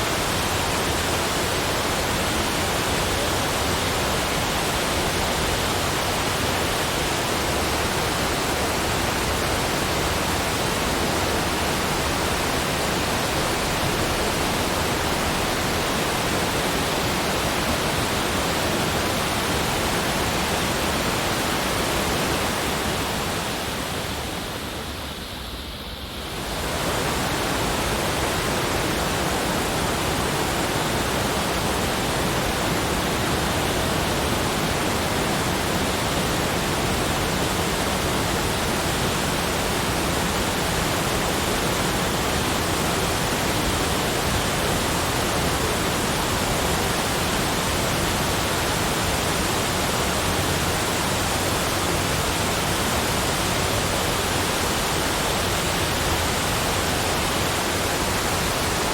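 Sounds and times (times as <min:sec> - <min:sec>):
steady rushing noise: 0:00.0 - 0:58.9.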